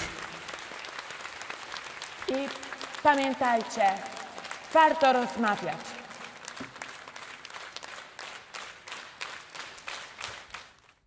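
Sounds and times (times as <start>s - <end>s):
crowd applause: 0.0s - 4.9s, 5.6s - 10.8s.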